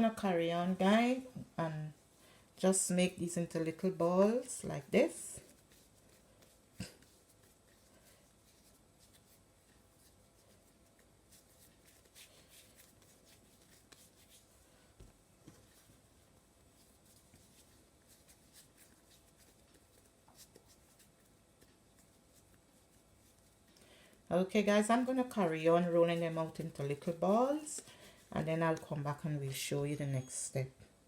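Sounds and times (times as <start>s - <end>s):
soft rubbing of dough: 0.0s - 31.0s.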